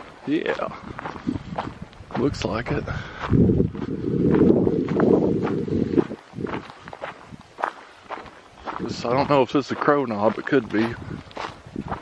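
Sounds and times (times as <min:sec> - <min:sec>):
footsteps on forest trail: 0:00.0 - 0:12.0.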